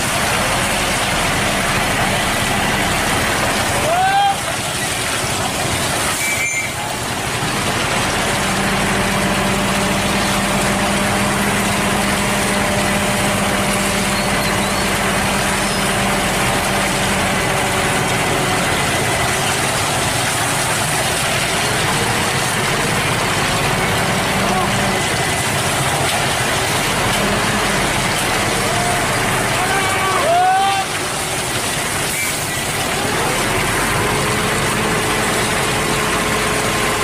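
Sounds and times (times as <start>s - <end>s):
heavy truck engine running: 0.0s - 37.0s.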